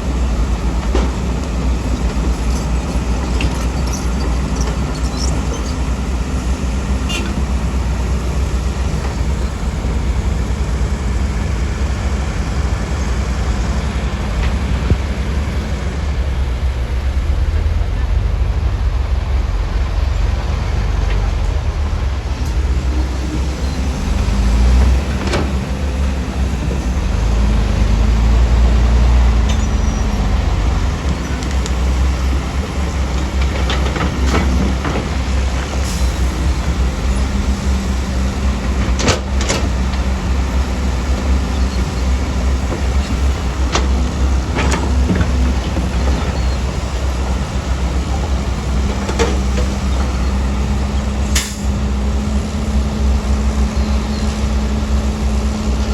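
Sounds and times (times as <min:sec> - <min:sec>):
heavy diesel engine rumbling: 0:00.0 - 0:55.9.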